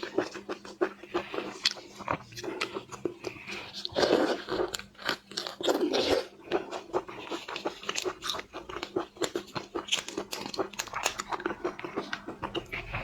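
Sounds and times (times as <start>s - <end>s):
biting and crunching shellfish: 0.0s - 13.0s.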